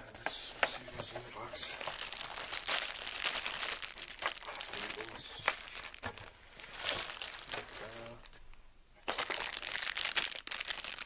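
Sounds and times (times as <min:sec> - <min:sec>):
packaging crinkling and rustling: 0:00.7 - 0:08.4, 0:09.0 - 0:11.0.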